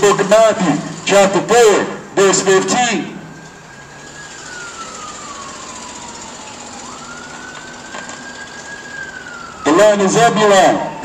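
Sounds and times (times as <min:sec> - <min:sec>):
emergency vehicle siren wailing: 0:00.0 - 0:11.0
street noise: 0:00.0 - 0:11.0.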